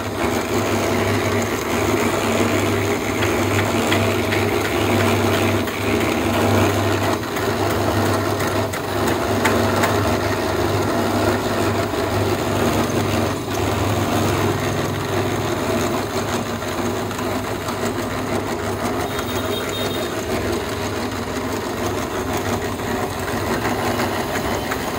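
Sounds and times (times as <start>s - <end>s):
concrete mixer running: 0.0s - 24.9s.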